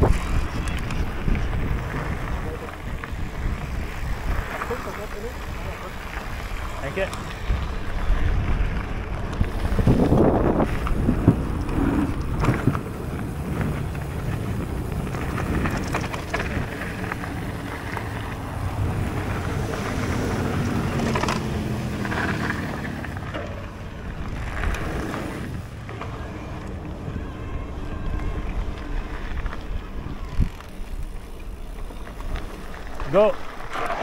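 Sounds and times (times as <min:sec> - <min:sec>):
bike knocking and rattling: 0:00.0 - 0:34.0
tyres on gravel: 0:00.0 - 0:34.0
wind buffeting microphone: 0:00.0 - 0:34.0.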